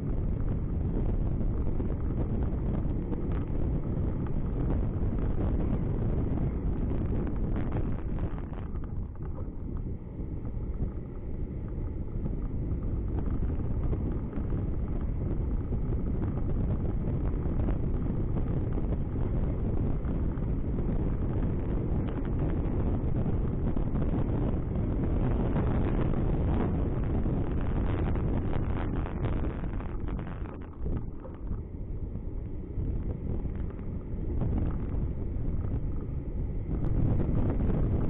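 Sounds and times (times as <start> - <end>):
car and tyres rumbling: 0.0 - 38.0
wind buffeting microphone: 0.0 - 38.0.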